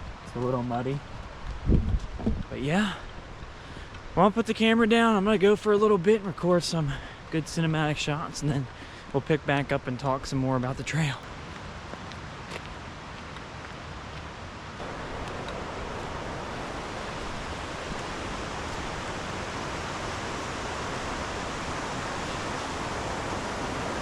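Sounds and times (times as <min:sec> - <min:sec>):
creek water flowing: 0:02.5 - 0:24.0.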